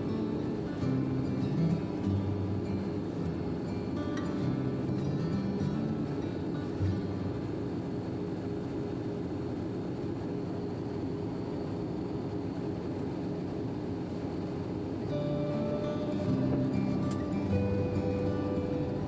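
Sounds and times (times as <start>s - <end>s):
jet airliner cabin noise: 0.0s - 19.0s.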